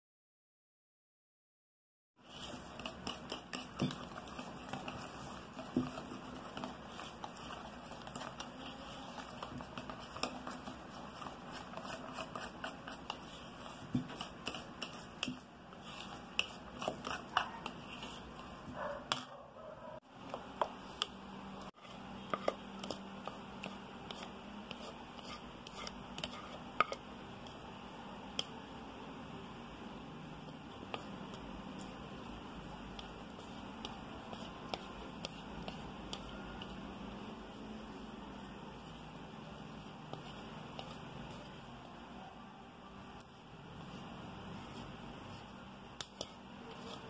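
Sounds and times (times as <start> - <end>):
utensil stirring batter in bowl: 2.2 - 19.4, 20.0 - 28.8, 30.3 - 42.1, 43.0 - 47.0.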